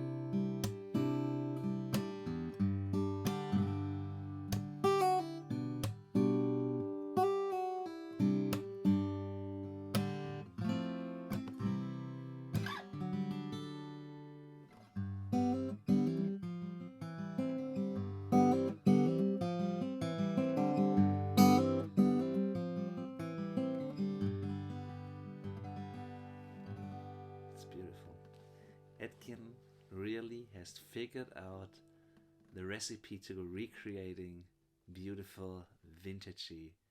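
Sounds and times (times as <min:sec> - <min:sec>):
acoustic guitar picking: 0:00.0 - 0:29.9.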